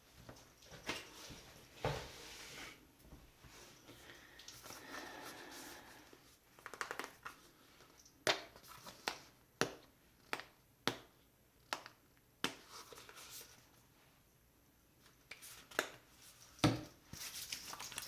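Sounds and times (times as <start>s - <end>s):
soft rustling of objects: 0.0s - 10.6s, 11.6s - 18.0s.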